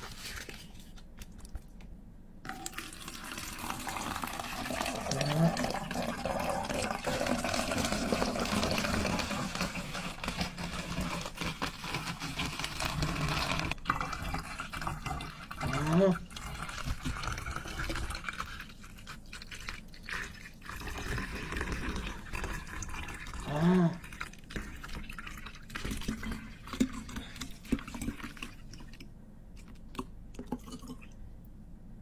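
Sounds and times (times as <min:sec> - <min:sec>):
liquid pouring into plastic bottle: 0:02.4 - 0:31.2.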